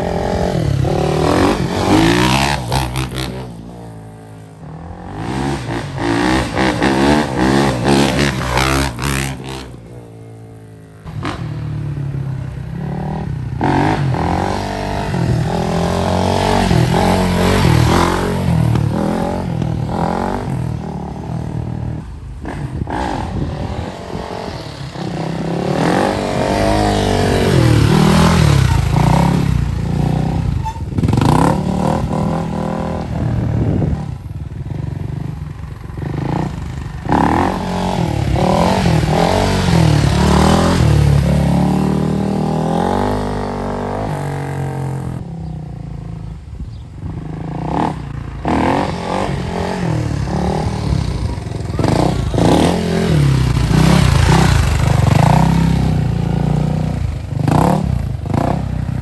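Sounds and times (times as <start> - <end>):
dirt bike engine revving: 0.0 - 45.2, 47.0 - 59.0.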